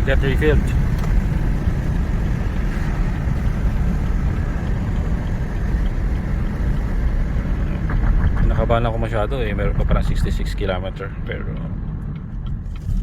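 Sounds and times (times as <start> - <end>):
car engine: 0.0 - 13.0
road noise inside car: 0.0 - 13.0.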